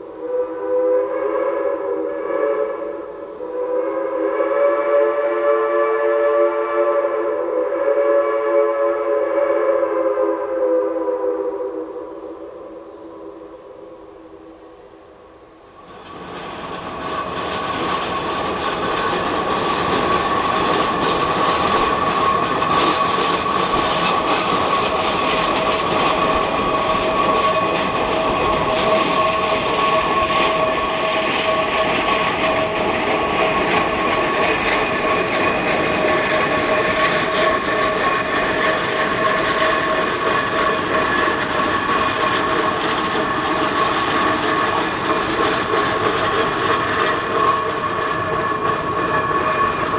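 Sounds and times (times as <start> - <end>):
steam locomotive running: 0.0 - 49.9.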